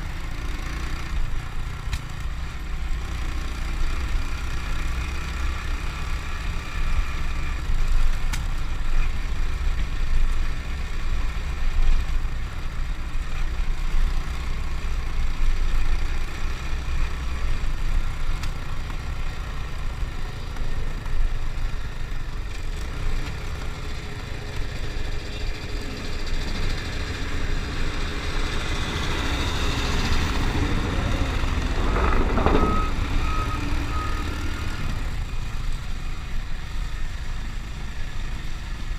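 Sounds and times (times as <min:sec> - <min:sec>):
motorcycle engine rumble: 0:00.0 - 0:38.9
passing vehicle: 0:00.0 - 0:38.9.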